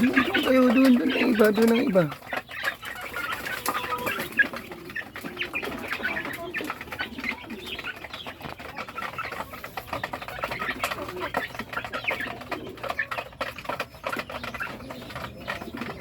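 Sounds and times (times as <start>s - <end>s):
chickens peeping and clucking: 0.0s - 16.0s.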